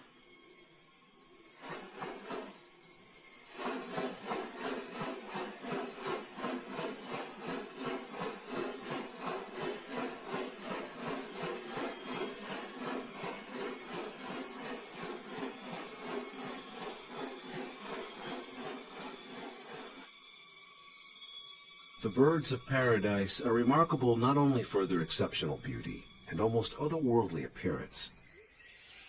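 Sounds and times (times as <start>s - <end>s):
pulsing insect drone: 0.0s - 29.0s.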